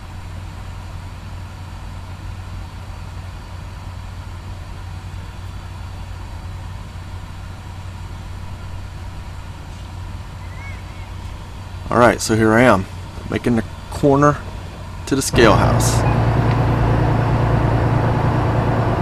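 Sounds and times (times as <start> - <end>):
truck diesel engine humming: 0.0 - 19.0.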